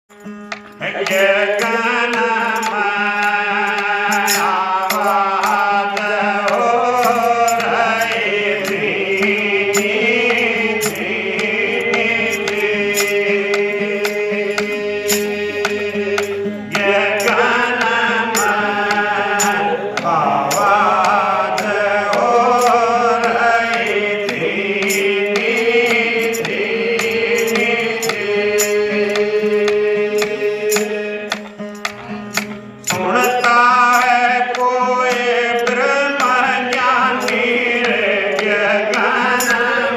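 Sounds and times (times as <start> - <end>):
instrumental melody: 0.1 - 39.7
percussion beat: 0.1 - 39.9
steady drone: 0.9 - 33.1.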